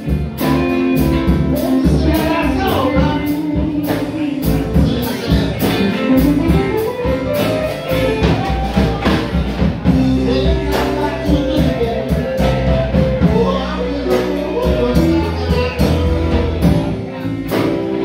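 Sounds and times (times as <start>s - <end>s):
drum kit: 0.0s - 18.0s
electric bass: 0.0s - 18.0s
electric guitar: 0.0s - 18.0s.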